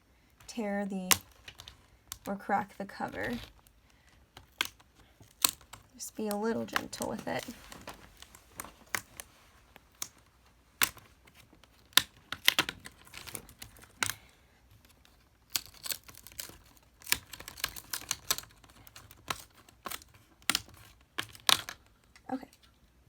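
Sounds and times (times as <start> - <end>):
plastic clips clicking and snapping: 1.0 - 2.3, 3.3 - 14.3, 14.9 - 22.7.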